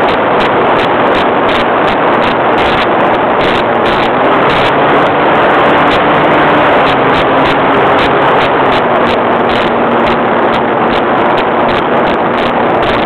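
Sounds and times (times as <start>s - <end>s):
faint steady hum: 0.0s - 13.0s
model airplane engine running: 0.0s - 13.0s
wind rush on microphone: 0.0s - 13.0s.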